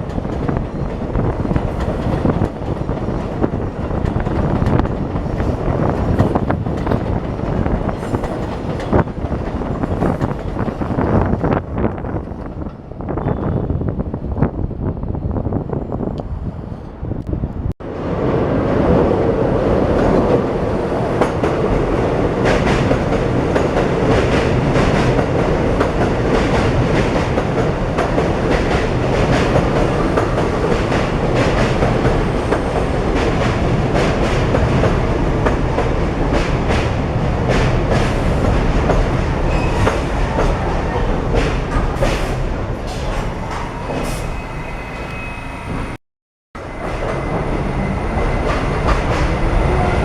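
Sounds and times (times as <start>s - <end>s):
subway train rumbling: 0.0s - 50.0s.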